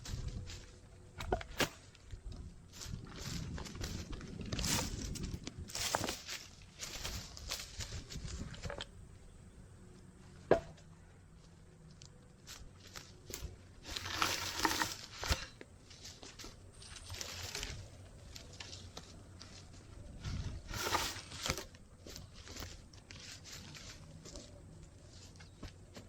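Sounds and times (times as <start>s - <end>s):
rustling and crunching: 0.0s - 26.0s.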